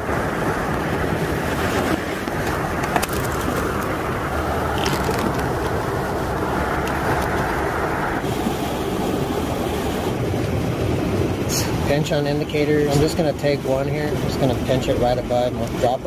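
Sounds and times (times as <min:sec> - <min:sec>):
creek flowing: 0:00.0 - 0:16.0.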